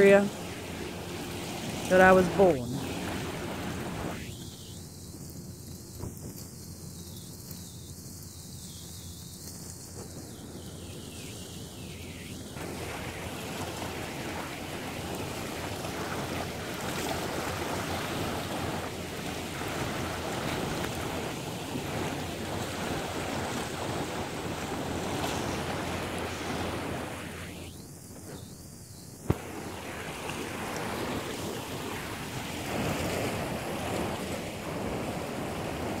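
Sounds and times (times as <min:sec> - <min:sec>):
surf washing over rocks: 0:00.0 - 0:06.7, 0:09.4 - 0:27.8, 0:29.2 - 0:36.0.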